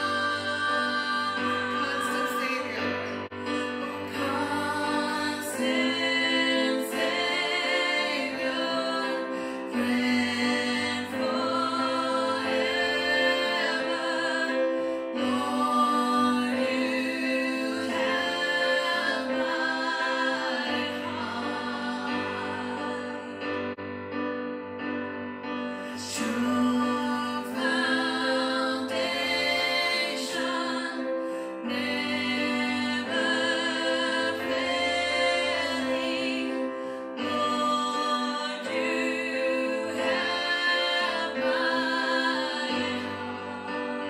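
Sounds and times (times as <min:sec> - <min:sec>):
women singing worship song: 0:00.0 - 0:23.8, 0:25.8 - 0:44.0
piano chords: 0:00.0 - 0:44.0.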